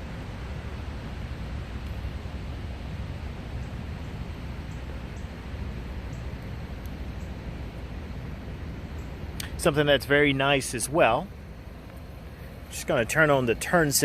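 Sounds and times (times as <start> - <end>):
car cabin rumble and hiss: 0.0 - 14.0.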